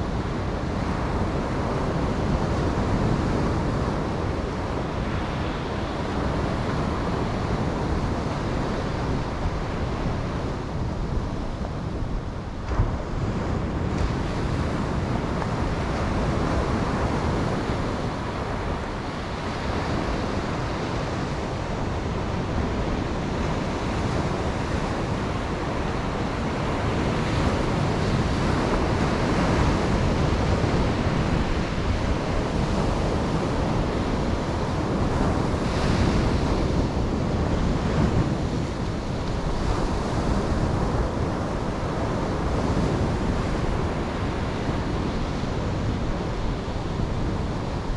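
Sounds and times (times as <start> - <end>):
ocean waves breaking on beach: 0.0 - 47.9
wind rumbling on microphone: 0.0 - 47.9.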